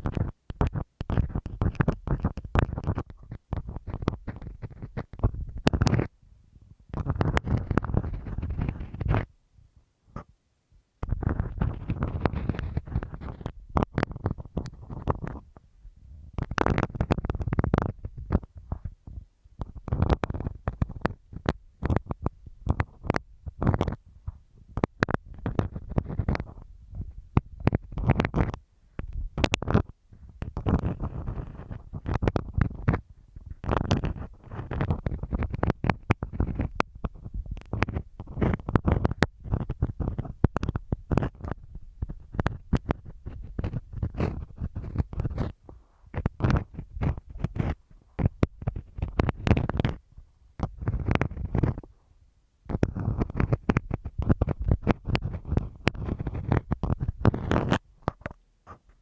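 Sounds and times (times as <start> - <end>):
pins scratching on masking tape: 0.0 - 6.1, 6.9 - 9.3, 11.0 - 15.4, 16.4 - 18.5, 19.6 - 24.0, 24.8 - 26.6, 27.4 - 28.6, 29.4 - 50.0, 50.6 - 51.9, 52.7 - 58.8.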